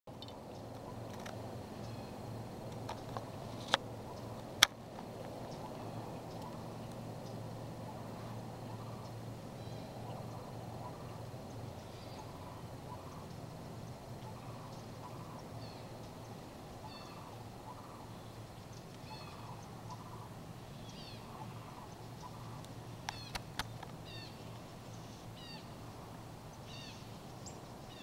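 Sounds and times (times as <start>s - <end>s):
steady low hum: 0.1s - 28.0s.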